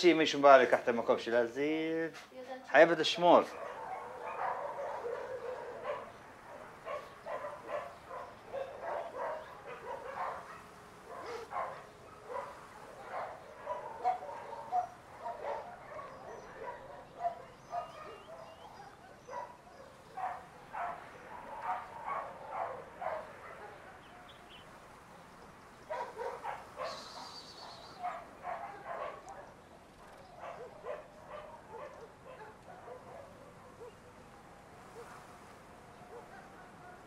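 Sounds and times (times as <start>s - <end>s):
dogs barking: 3.2s - 37.0s.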